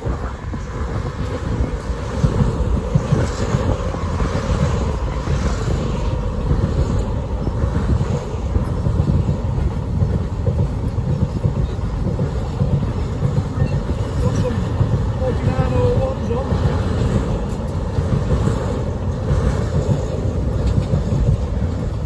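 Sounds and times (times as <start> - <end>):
locomotive passing: 0.0 - 22.0
train wheels on rail: 0.0 - 22.0.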